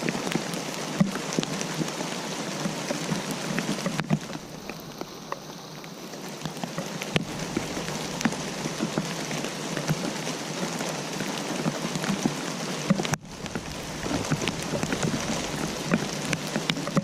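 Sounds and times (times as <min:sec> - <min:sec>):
rain falling: 0:00.0 - 0:17.0
raindrops ticking on a surface: 0:00.0 - 0:17.0.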